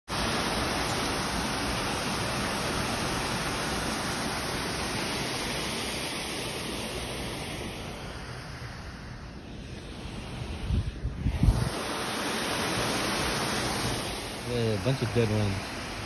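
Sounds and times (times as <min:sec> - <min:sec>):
water rushing over weir: 0:00.1 - 0:16.0.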